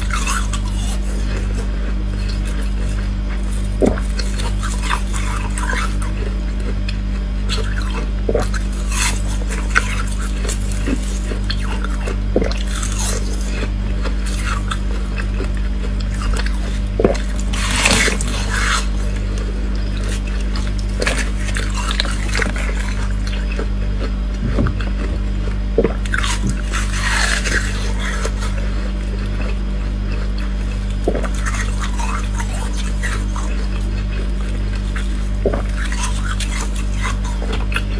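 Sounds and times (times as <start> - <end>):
ice crunching in mouth: 0.0 - 37.9
low electrical hum: 0.0 - 37.9.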